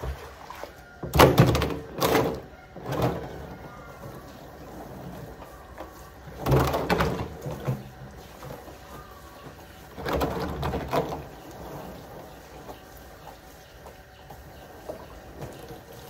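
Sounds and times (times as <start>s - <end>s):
plastic drum scraping on paving: 1.1s - 16.0s.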